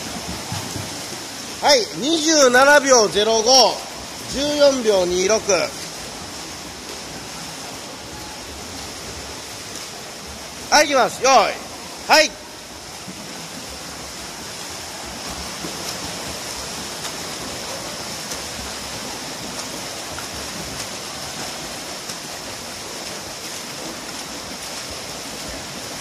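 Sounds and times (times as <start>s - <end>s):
other swimmers splashing: 0.0s - 26.0s
swimmer splashing: 0.0s - 26.0s.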